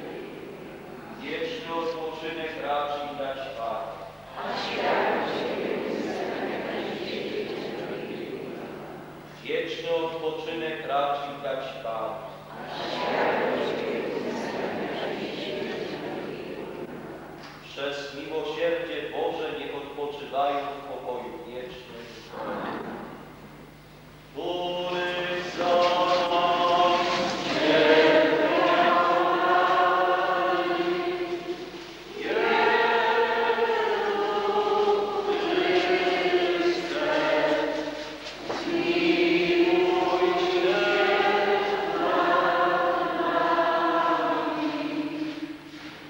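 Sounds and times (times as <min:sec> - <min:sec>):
congregation singing a hymn: 0:00.0 - 0:23.5, 0:24.3 - 0:46.0.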